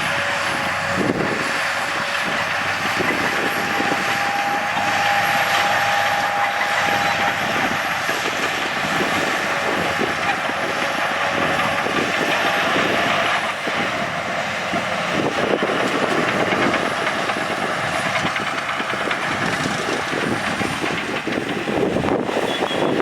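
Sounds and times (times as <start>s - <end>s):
diesel engine running: 0.0s - 23.0s
machinery rattling clatter: 0.0s - 23.0s.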